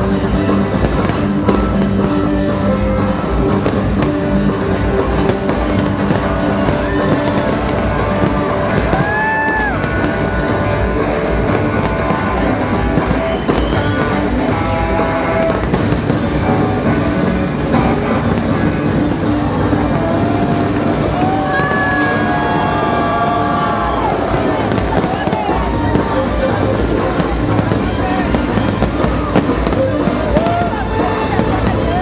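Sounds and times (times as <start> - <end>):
fireworks bursting and crackling: 0.0 - 32.0
orchestral show music: 0.0 - 32.0.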